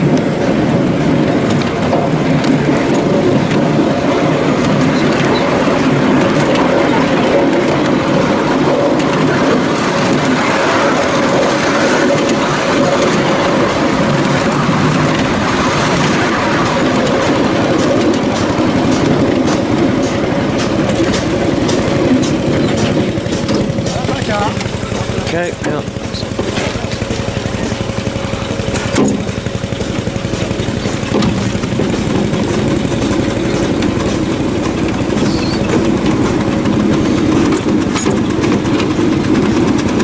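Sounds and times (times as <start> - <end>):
constant hum: 0.0 - 40.0
train wheels rumbling on rail: 0.0 - 40.0.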